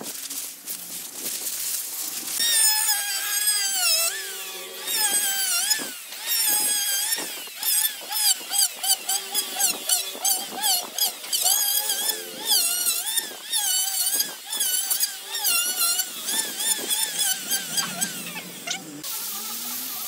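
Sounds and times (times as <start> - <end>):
electric planer cutting wood: 1.9 - 20.0.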